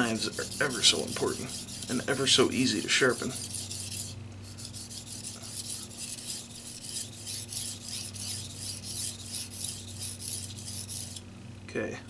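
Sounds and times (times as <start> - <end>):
knife scraping on wet whetstone: 0.0 - 11.2.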